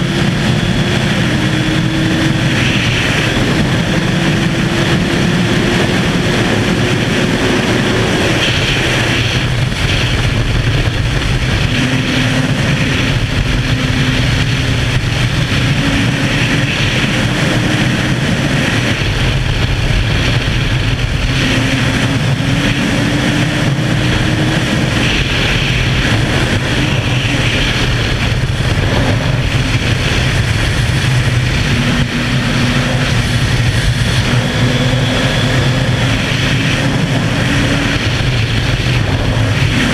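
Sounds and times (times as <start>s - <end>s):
loud wind rush: 0.0s - 39.9s
motorcycle engine running hard: 0.0s - 39.9s.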